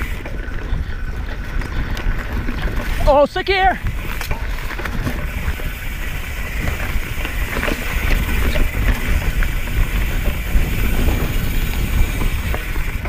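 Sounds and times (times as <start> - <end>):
bike clattering: 0.0 - 13.0
bike tyres rumbling over dirt: 0.0 - 13.0
wind buffeting microphone: 0.0 - 13.0.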